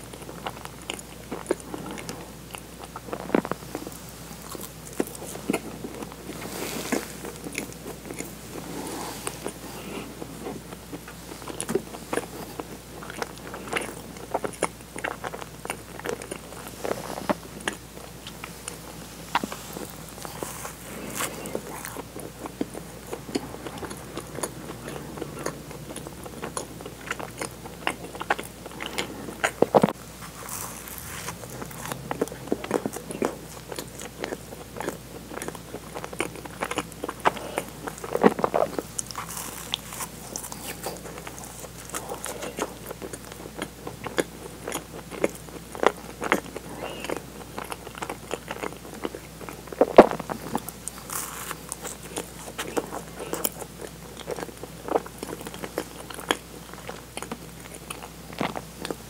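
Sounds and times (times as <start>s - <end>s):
biting and chewing: 0.0s - 59.0s.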